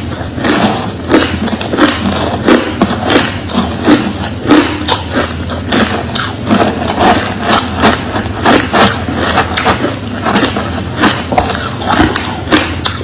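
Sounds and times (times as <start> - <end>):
ice crunched between teeth: 0.0 - 13.0.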